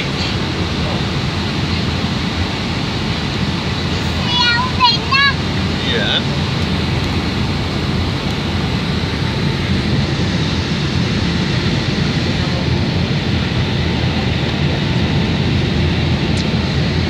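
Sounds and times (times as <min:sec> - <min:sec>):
airliner cabin engine and airflow noise: 0:00.0 - 0:17.0.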